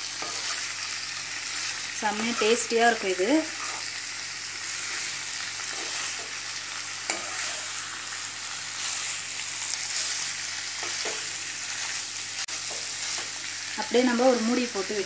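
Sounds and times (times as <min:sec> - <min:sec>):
metal spatula stirring in pan: 0:00.0 - 0:14.9
chicken sizzling in butter: 0:00.0 - 0:15.0.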